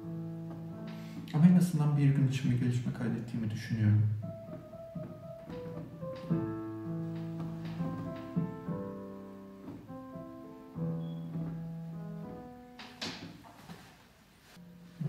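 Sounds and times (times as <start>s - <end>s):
slow piano notes and chords: 0.0s - 15.0s.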